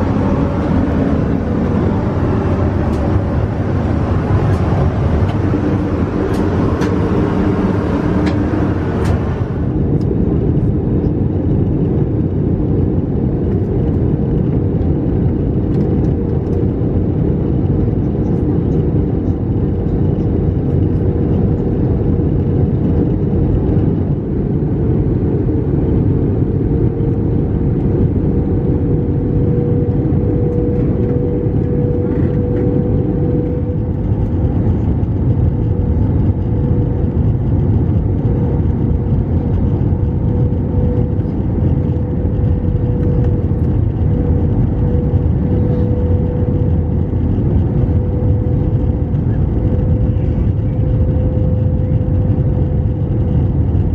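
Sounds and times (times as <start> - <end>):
airplane cabin engine rumble: 0.0 - 53.9
steady engine tone: 0.0 - 53.9.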